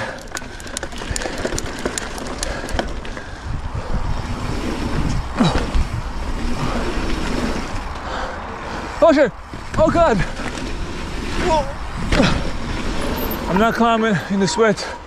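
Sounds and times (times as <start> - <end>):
bike clicks and rattles: 0.0 - 8.4, 9.0 - 15.0
bike tyres rumbling on dirt: 0.0 - 15.0.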